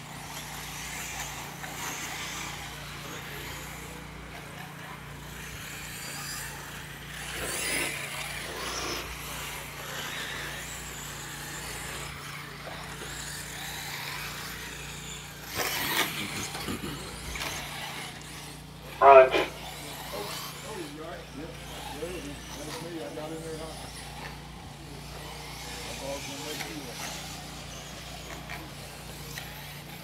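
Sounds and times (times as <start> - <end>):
electric motor whine: 0.0 - 30.0
tyres on dirt: 0.0 - 30.0.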